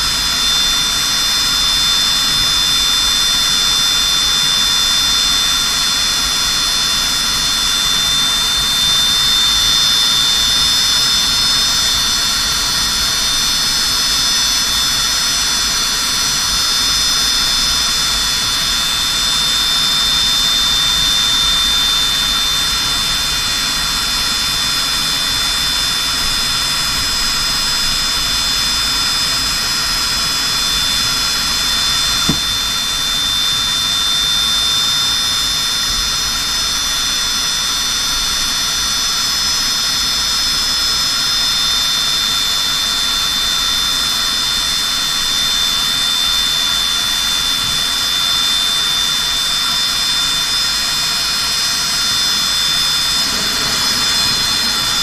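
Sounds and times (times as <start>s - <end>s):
aircraft turbine engine whine: 0.0s - 55.0s.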